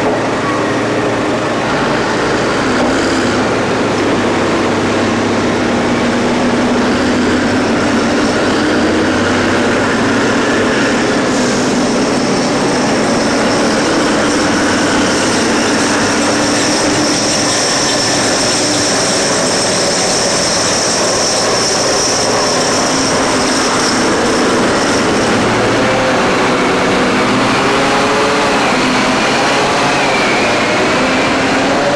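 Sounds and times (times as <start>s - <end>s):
heavy diesel engines running: 0.0s - 31.9s.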